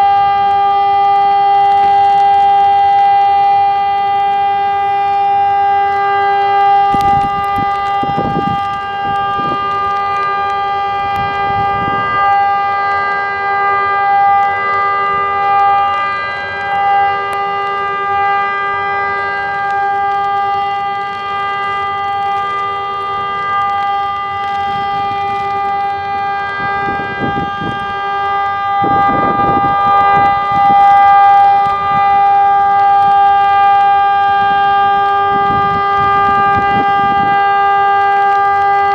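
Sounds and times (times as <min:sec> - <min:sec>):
electronic siren steady tone: 0:00.0 - 0:38.9.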